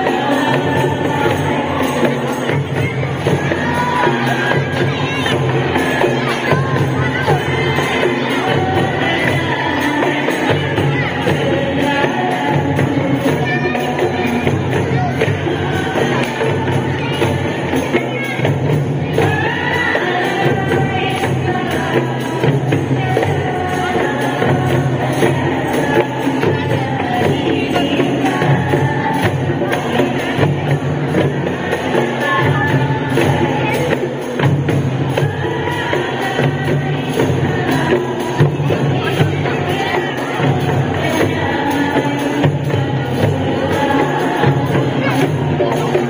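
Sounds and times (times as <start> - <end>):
frame drums beating: 0.0 - 46.0
women singing together: 0.0 - 46.0.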